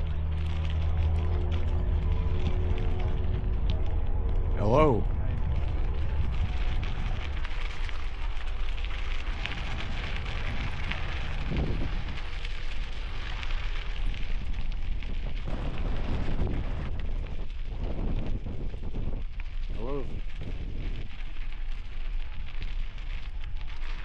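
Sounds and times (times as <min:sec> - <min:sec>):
bicycle tires crunching on gravel: 0:00.0 - 0:24.0
wind buffeting microphone: 0:00.0 - 0:24.0.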